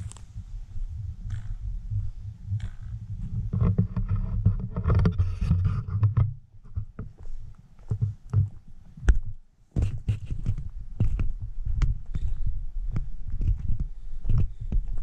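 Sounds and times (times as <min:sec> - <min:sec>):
microphone handling rumble: 0:00.0 - 0:15.0.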